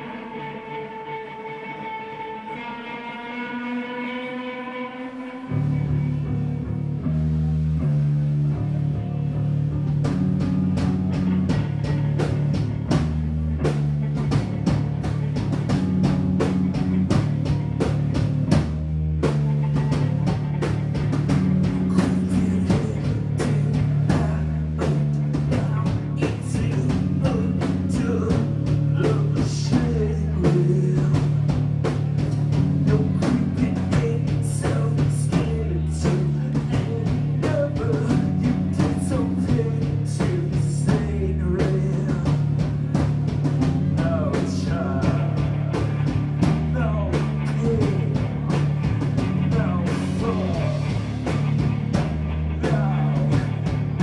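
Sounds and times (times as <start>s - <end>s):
guitar: 0.0s - 54.0s
droning bass line: 5.0s - 54.0s
drum kit beating: 7.0s - 54.0s.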